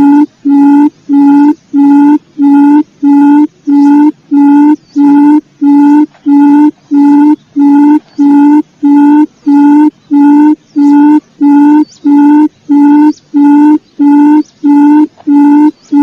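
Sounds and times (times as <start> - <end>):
faint high chirps: 0.0 - 16.0
quail call short hooting notes: 0.0 - 16.0.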